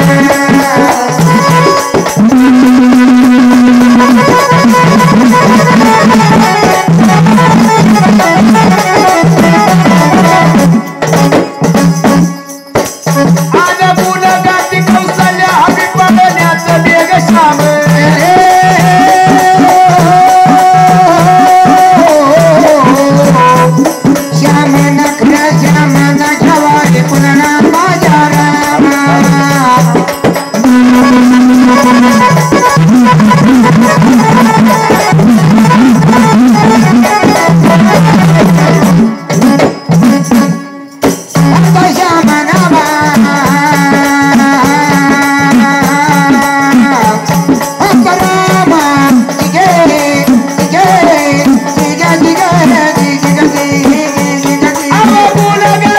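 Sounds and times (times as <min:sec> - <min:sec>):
rattling percussion: 0:00.0 - 0:55.9
steady drum beat: 0:00.0 - 0:55.9.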